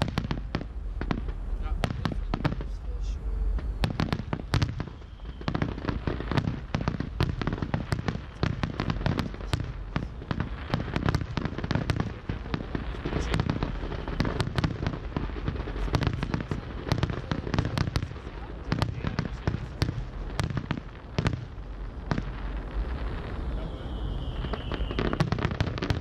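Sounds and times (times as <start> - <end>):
steady low rumble: 0.0 - 25.0
fireworks bursting with sharp bangs: 0.0 - 26.0.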